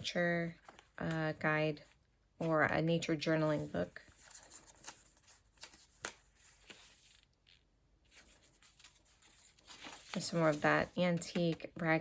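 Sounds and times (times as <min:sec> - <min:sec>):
paper pages rustling: 0:00.4 - 0:12.0.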